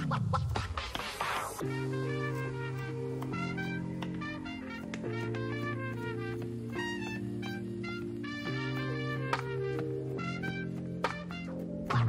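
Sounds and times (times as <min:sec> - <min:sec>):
melody over sustained chords: 0:01.6 - 0:12.0.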